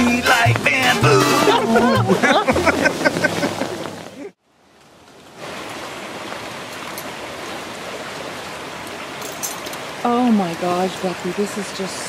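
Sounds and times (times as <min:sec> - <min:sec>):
rain falling in forest: 0:02.2 - 0:12.0.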